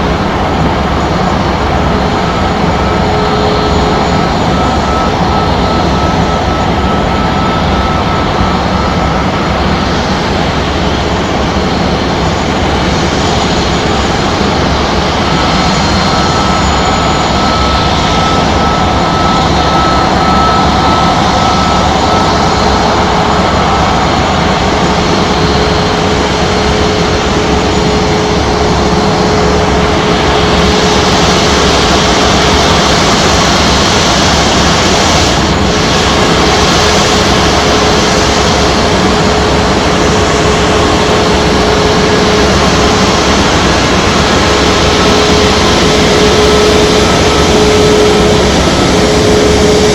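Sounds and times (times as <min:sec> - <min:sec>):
jet engines running with whine: 0:00.0 - 0:49.9.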